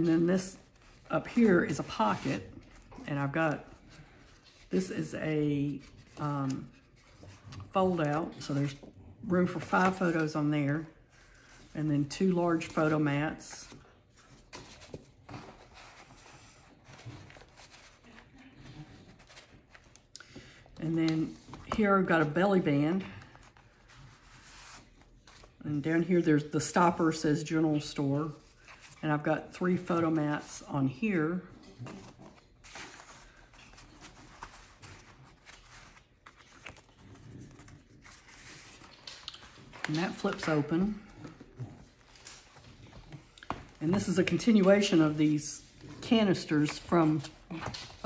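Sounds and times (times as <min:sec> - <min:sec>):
paper pages rustling: 0:00.0 - 0:22.4, 0:23.1 - 0:25.6, 0:31.5 - 0:48.0.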